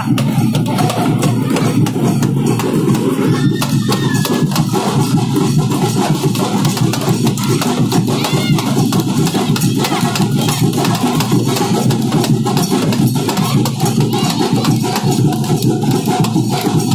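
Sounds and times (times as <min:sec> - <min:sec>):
loud drum-led music: 0:00.0 - 0:16.9.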